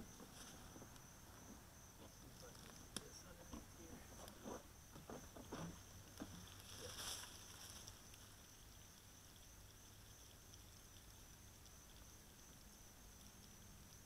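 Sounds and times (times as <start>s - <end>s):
insects chirring: 0.0s - 14.0s
soft rustle: 0.0s - 14.0s.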